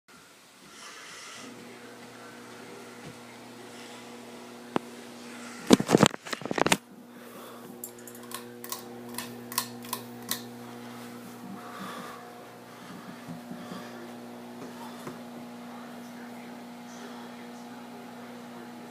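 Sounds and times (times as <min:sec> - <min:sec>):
ceiling fan motor humming: 0:00.1 - 0:18.9.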